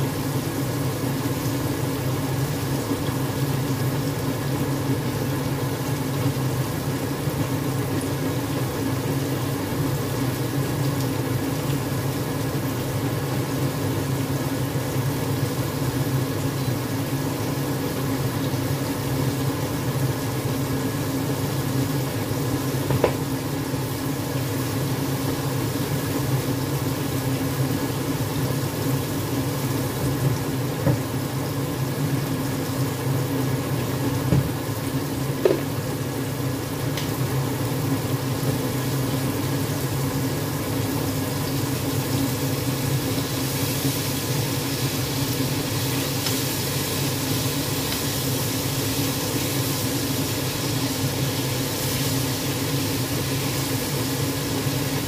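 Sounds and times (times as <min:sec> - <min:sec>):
chicken sizzling in oil: 0:00.0 - 0:55.0
low mechanical hum: 0:00.0 - 0:55.0.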